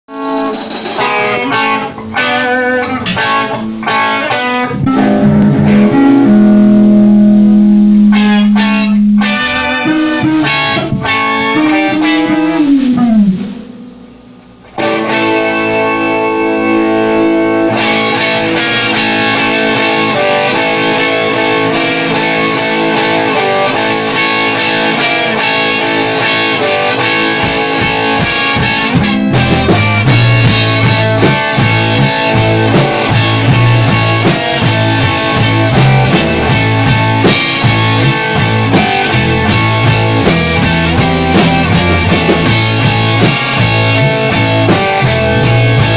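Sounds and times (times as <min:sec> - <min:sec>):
distorted electric guitar: 0:00.1 - 0:45.9.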